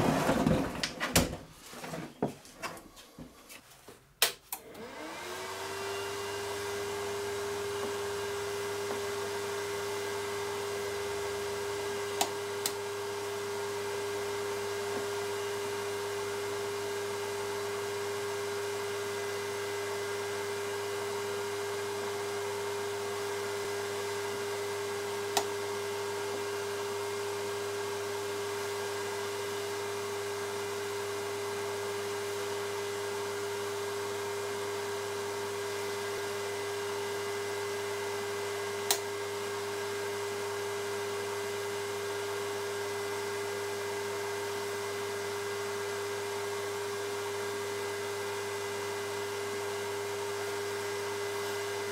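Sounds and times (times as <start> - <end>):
welder fan humming: 4.5 - 51.9.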